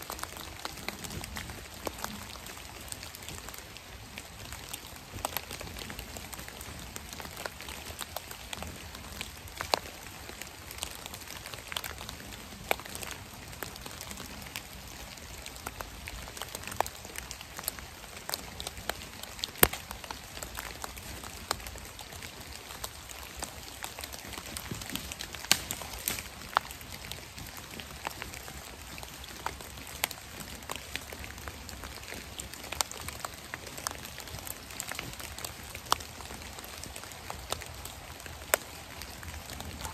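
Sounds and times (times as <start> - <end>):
raindrops ticking on leaves: 0.0 - 39.9.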